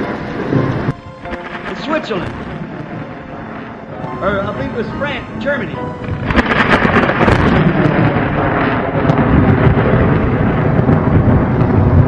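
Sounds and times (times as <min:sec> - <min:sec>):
thunder rumbling and cracking: 0:00.0 - 0:12.0.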